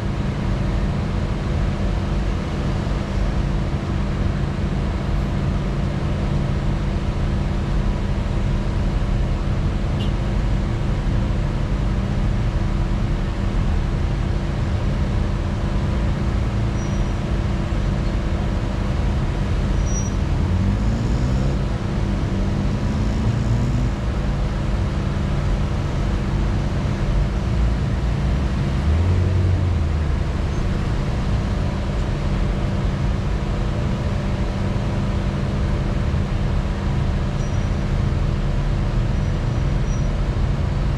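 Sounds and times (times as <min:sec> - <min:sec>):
road and drive noise: 0:00.0 - 0:40.9
vehicle engine running: 0:00.0 - 0:40.9.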